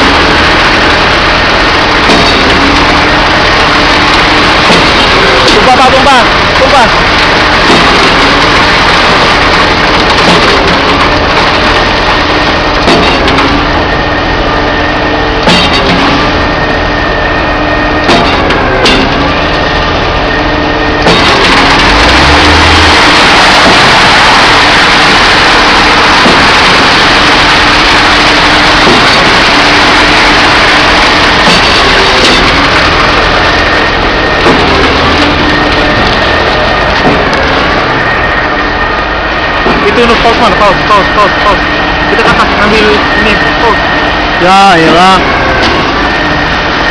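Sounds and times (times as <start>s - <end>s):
concrete pump engine running: 0.0s - 46.9s.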